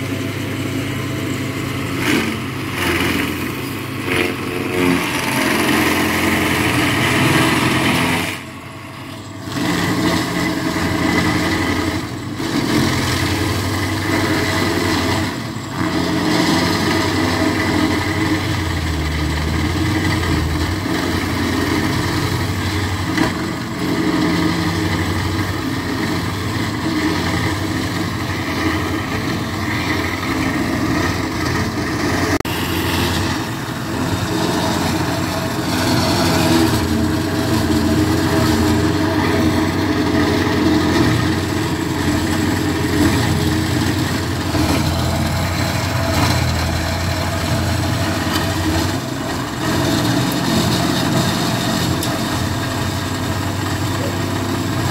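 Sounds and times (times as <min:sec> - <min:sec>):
cutting wheel grinding stump: 0:00.0 - 0:54.9
stump grinder engine running: 0:00.0 - 0:54.9.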